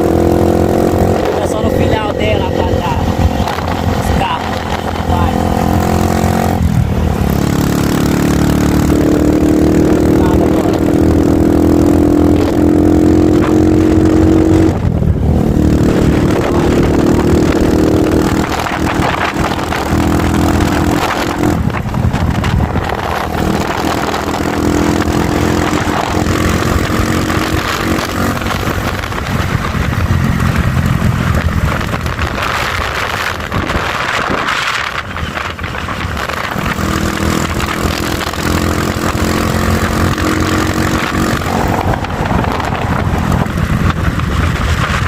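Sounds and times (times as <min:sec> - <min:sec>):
motorcycle engine running: 0:00.0 - 0:45.0
wind noise: 0:00.0 - 0:45.0.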